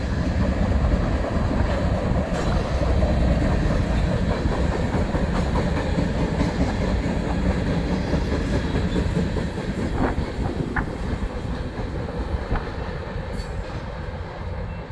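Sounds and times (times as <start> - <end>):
wheels clacking over rails: 0.0 - 14.2
freight train rumbling past: 0.0 - 14.9.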